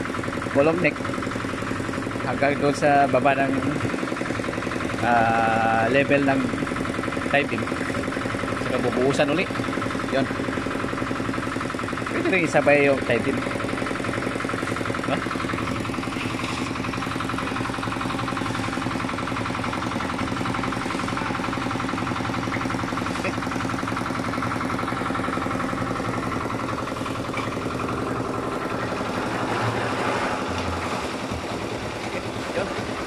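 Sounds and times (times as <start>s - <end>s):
concrete mixer engine running: 0.0s - 33.0s.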